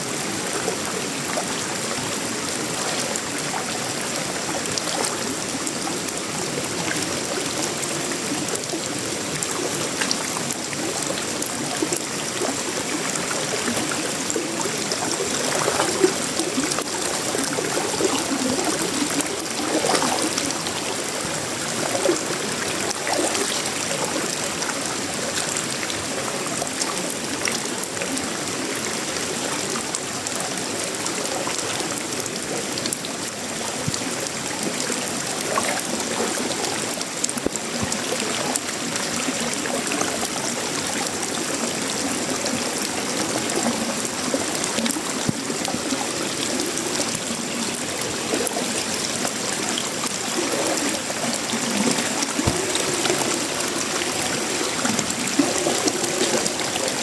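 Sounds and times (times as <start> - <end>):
faint water gurgles: 0.0 - 57.0
heavy rain on metal roofing: 0.0 - 57.0
water running and trickling: 0.0 - 57.0.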